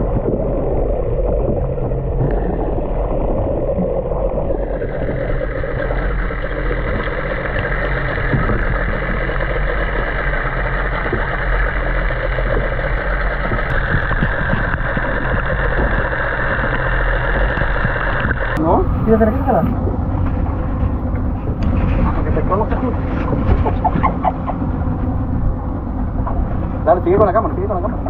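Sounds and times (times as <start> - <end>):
low steady hum: 0.0 - 28.0
underwater water rushing: 0.0 - 28.0.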